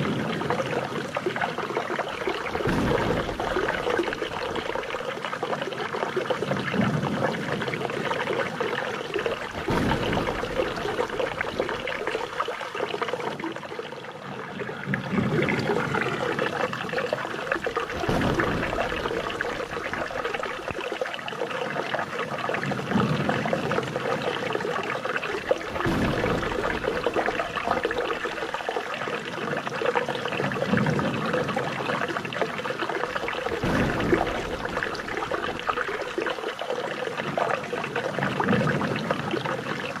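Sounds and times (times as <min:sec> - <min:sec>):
deeper water gush: 0:00.0 - 0:40.0
water trickling and splashing: 0:00.0 - 0:40.0.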